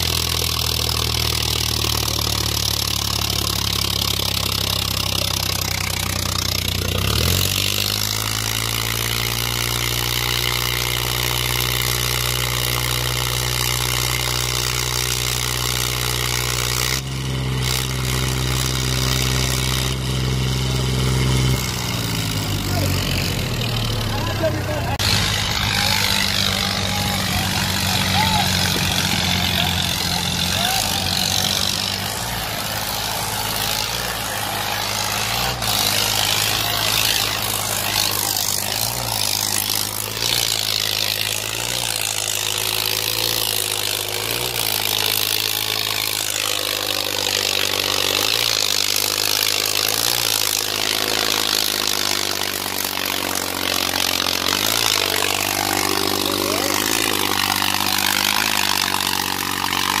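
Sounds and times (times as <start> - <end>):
tractor diesel engine under load: 0.0 - 60.0.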